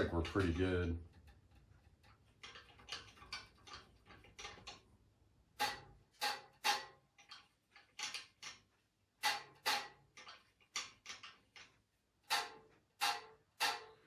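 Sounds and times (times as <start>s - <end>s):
sharp metallic clicks and taps: 0.0s - 14.0s.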